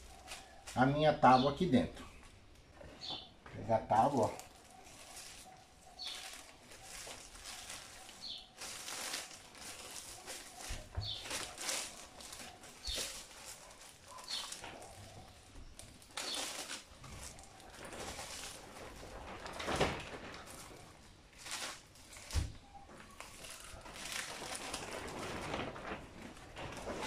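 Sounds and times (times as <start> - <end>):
plastic film crinkling: 0.0 - 27.0.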